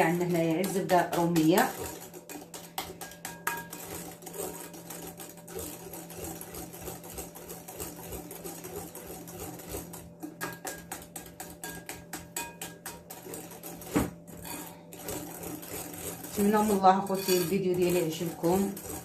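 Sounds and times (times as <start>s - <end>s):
whisk clicking against glass bowl: 0.0s - 19.0s.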